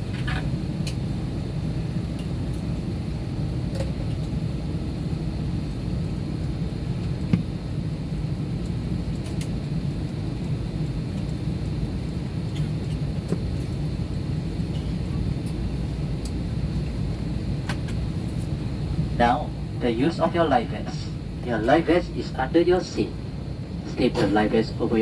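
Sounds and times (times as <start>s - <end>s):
aircraft cabin rumble: 0.0s - 25.0s.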